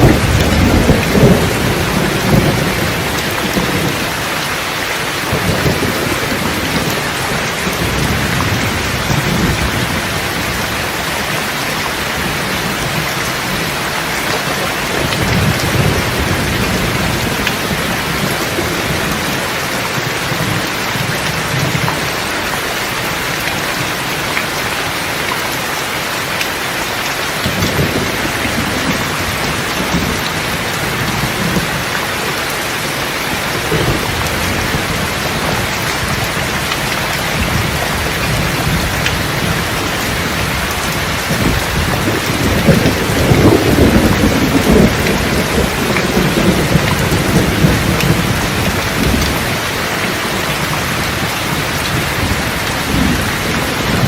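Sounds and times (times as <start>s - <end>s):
rolling thunder: 0.0s - 11.3s, 12.0s - 22.1s, 27.4s - 32.0s, 32.7s - 54.0s
steady rain falling: 0.0s - 54.0s.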